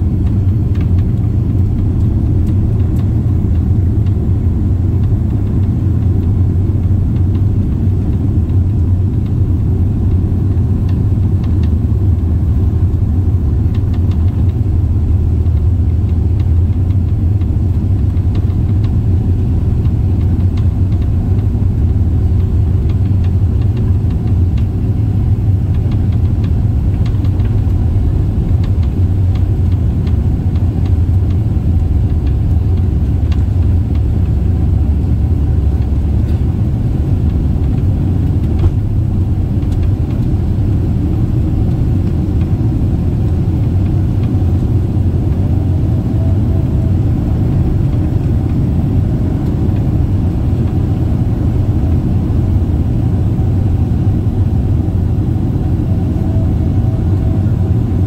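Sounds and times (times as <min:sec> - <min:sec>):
airplane cabin low rumble: 0:00.0 - 0:58.0.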